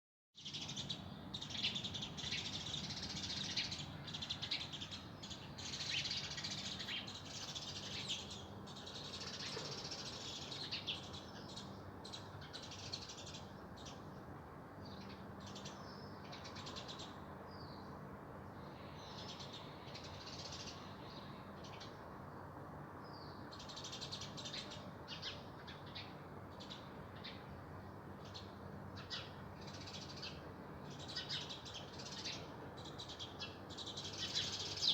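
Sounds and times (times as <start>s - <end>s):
songbirds chirping and singing: 0.4s - 34.9s.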